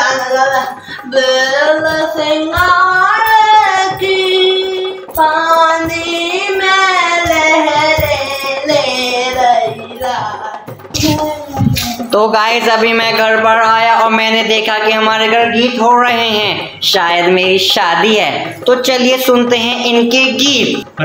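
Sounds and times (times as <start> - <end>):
soft drum beats: 0.0 - 21.0.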